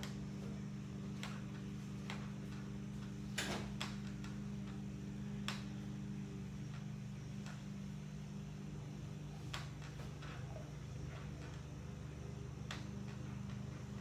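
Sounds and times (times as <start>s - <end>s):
exercise bike whirring: 0.0s - 14.0s.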